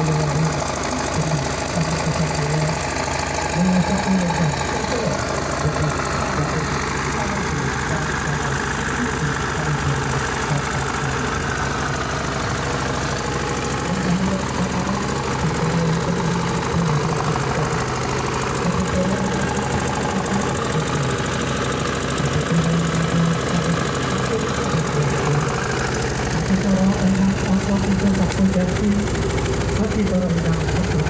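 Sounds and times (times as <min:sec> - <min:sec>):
silenced diesel engine running: 0:00.0 - 0:31.0.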